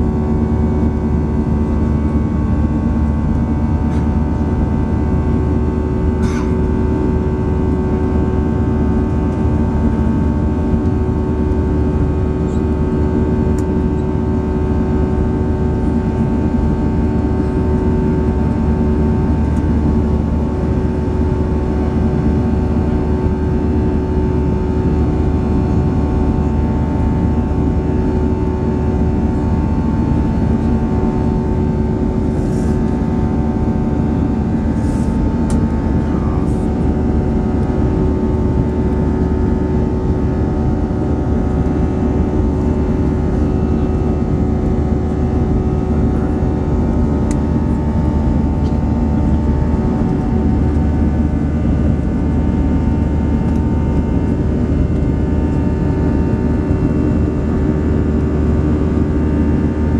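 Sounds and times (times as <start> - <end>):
airplane engines rumbling in cabin: 0.0 - 59.9
steady humming tones: 0.0 - 59.9.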